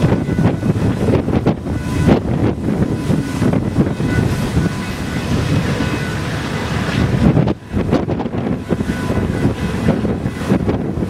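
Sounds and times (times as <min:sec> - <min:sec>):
freight train cars rolling: 0:00.0 - 0:11.0
wind buffeting microphone: 0:00.0 - 0:11.0.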